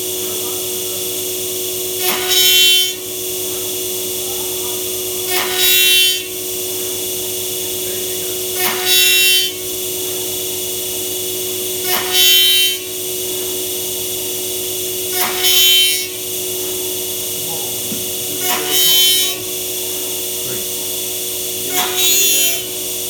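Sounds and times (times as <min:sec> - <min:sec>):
router spindle whining: 0:02.0 - 0:23.0.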